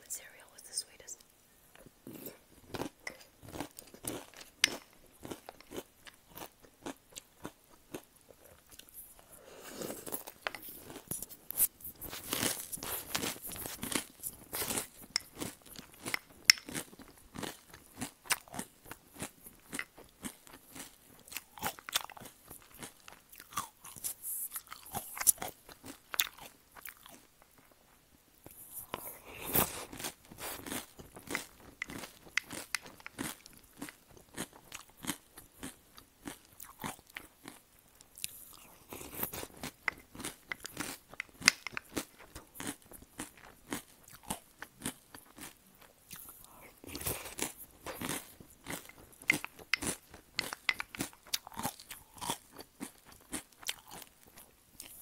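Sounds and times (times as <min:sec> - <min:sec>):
crunching and chewing cereal: 0:01.7 - 0:55.0.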